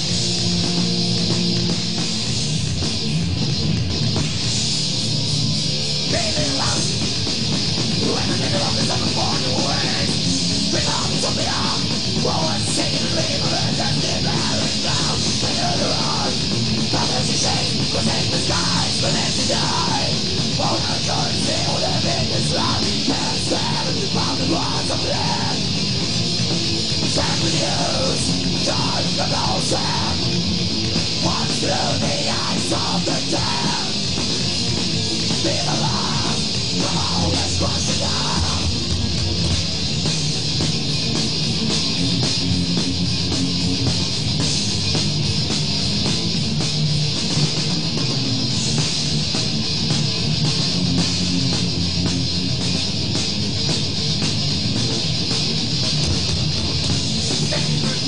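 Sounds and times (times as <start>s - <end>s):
distorted electric guitars: 0.0s - 58.0s
drum kit with crashing cymbals: 0.0s - 58.0s.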